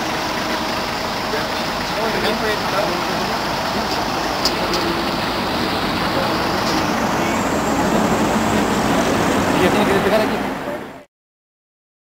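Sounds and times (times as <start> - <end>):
heavy vehicle engines idling: 0.0 - 11.1
road traffic noise: 0.0 - 11.1.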